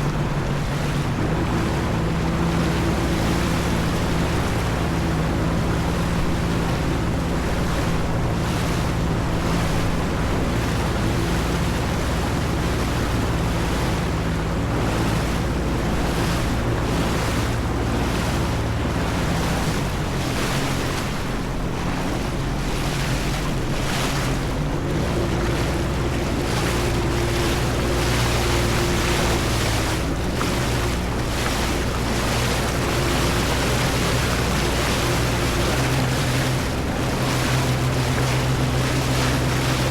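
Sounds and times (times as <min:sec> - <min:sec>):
jet ski engine running: 0:00.0 - 0:39.9
rushing water: 0:00.0 - 0:39.9
water slapping: 0:00.0 - 0:39.9.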